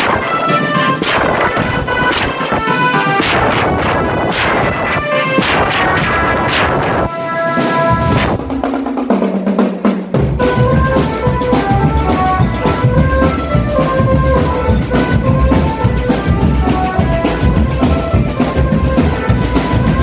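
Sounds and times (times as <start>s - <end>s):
marching drum band playing: 0.0s - 20.0s.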